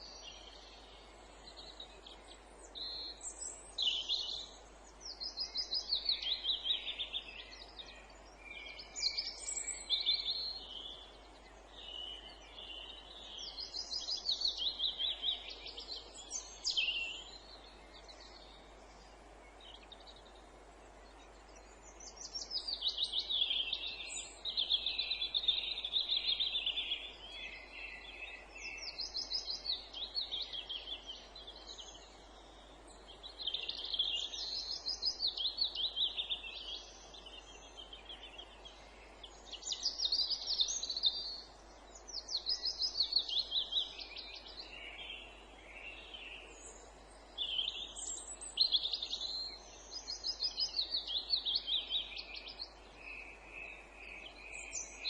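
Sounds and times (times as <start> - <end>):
faint outdoor hiss: 0.0 - 55.0
songbirds singing: 0.0 - 55.0.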